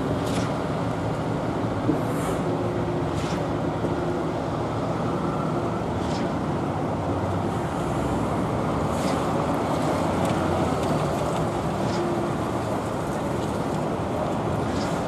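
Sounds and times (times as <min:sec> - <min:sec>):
diesel truck engines rumbling: 0:00.0 - 0:15.0.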